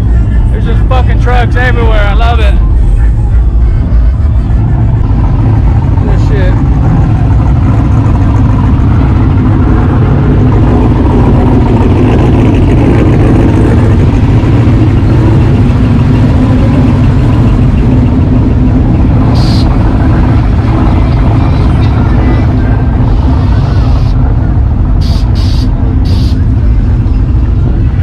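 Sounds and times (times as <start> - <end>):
truck engines rumbling: 0.0 - 28.0.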